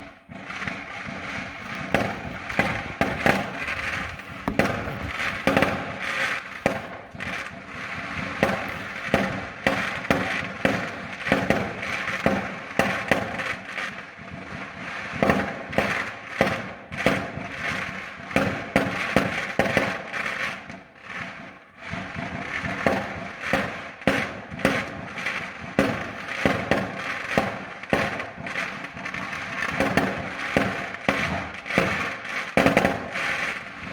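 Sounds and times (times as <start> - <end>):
fireworks bangs and pops: 0.0 - 33.9.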